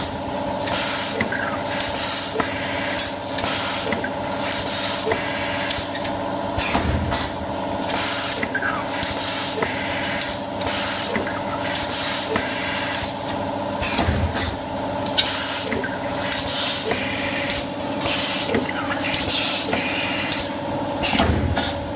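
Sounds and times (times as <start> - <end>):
machine humming: 0.0 - 21.9
pneumatic cylinder hiss and click: 0.6 - 21.8.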